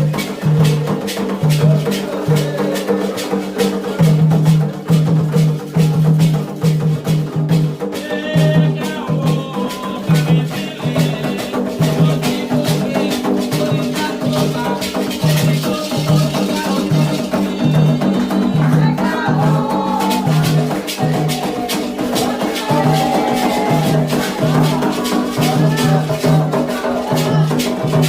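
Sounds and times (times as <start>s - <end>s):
voices singing: 0.0s - 4.9s, 7.9s - 28.0s
shaken rattle: 0.0s - 6.8s, 7.8s - 28.0s
hand drums beating: 0.0s - 28.0s.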